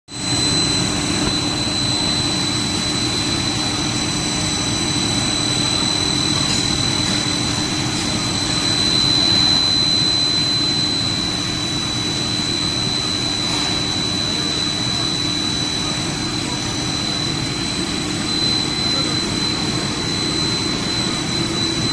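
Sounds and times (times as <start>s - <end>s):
high-pitched whine: 0.1s - 21.9s
machine drone: 0.2s - 21.9s.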